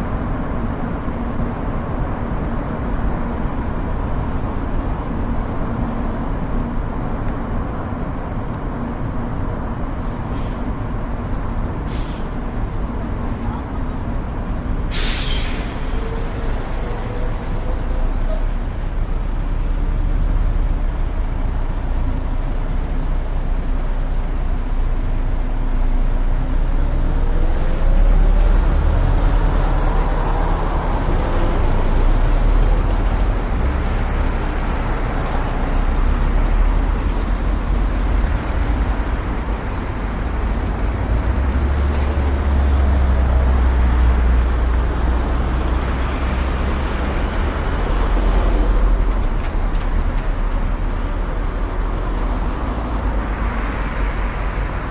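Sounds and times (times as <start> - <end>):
car engine and tyre rumble: 0.0 - 54.9.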